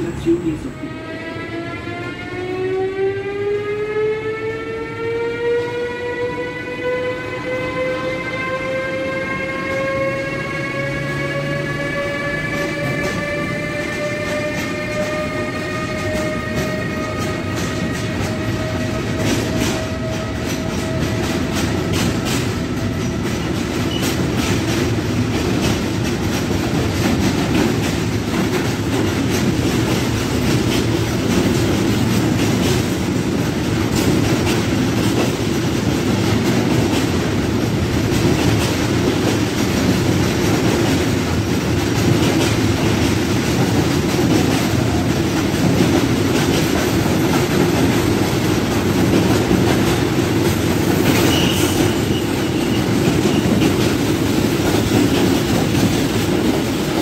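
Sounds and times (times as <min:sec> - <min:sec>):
train wheels rumbling on rail: 0:00.0 - 0:57.0
clickety-clack over rail joints: 0:07.7 - 0:57.0.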